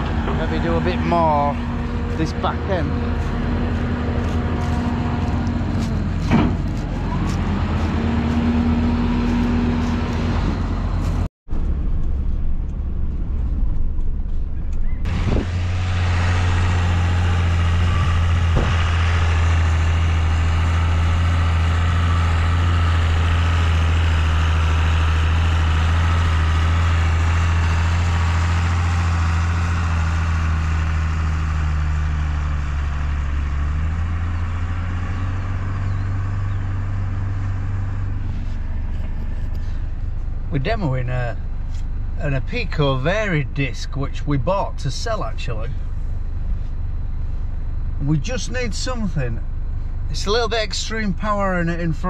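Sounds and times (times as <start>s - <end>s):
low engine drone in a cab: 0.0s - 52.0s
machinery in a field: 0.0s - 52.0s.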